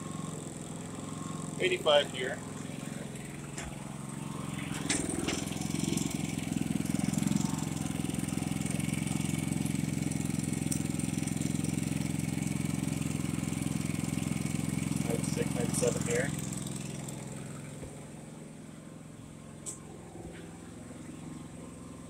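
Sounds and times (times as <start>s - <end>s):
generator humming: 0.0s - 22.0s.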